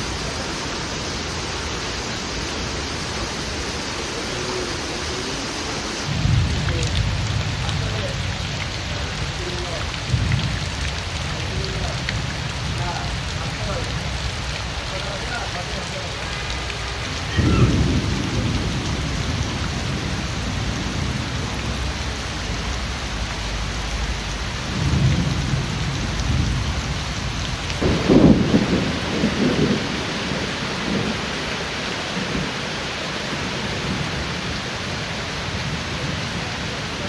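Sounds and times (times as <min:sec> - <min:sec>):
thunder rumbling: 0:00.0 - 0:32.6
steady rain falling: 0:00.0 - 0:37.0.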